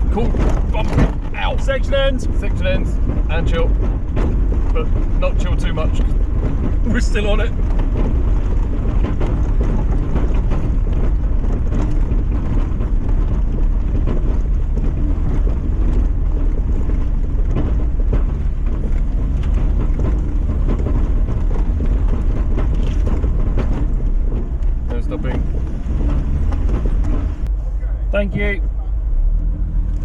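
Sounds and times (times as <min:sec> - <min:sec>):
knocks and rattles: 0:00.0 - 0:27.5
car engine and road rumble: 0:00.0 - 0:30.0
wind noise on microphone: 0:00.0 - 0:30.0.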